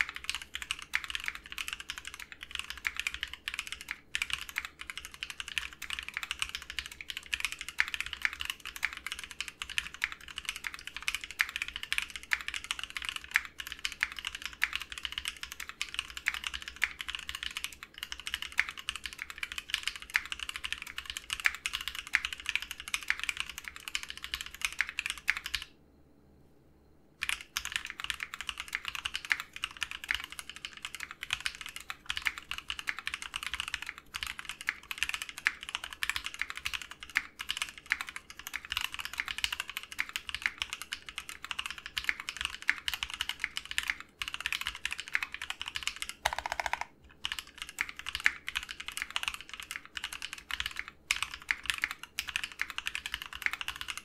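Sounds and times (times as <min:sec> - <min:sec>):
typing on mechanical keyboard: 0:00.0 - 0:25.7, 0:27.2 - 0:54.0.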